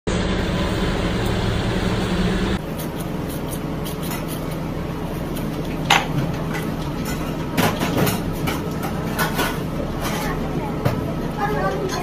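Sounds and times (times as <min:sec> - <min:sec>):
mechanical hum: 0:00.1 - 0:12.0.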